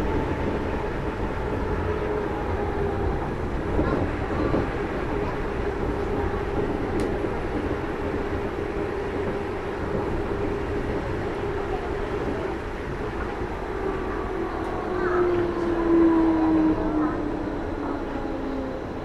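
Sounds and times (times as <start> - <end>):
metro train tyres rumbling: 0.0 - 19.0.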